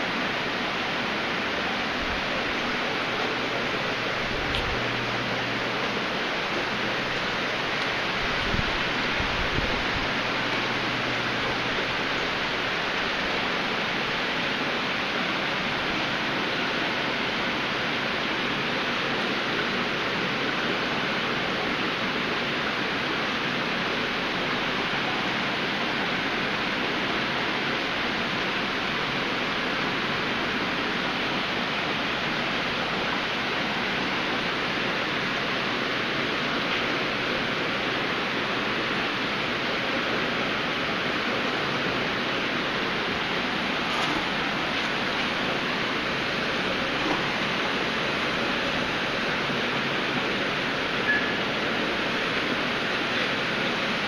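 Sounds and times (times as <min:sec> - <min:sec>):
aquarium water rushing: 0:00.0 - 0:54.0.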